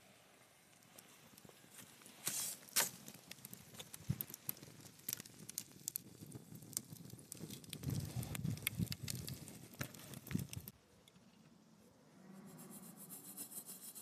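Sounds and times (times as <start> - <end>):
wood fire crackling: 0.0 - 11.3.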